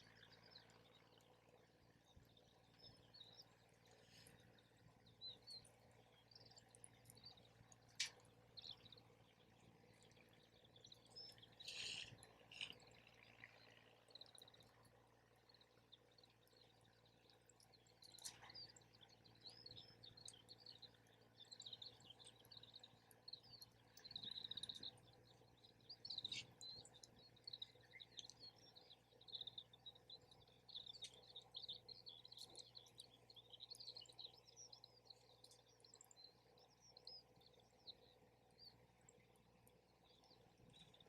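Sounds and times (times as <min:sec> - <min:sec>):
small birds twittering: 0:00.0 - 0:41.0.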